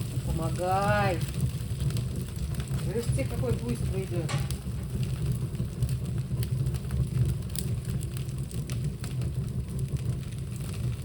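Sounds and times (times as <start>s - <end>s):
fire rumbling and crackling: 0.0s - 11.0s.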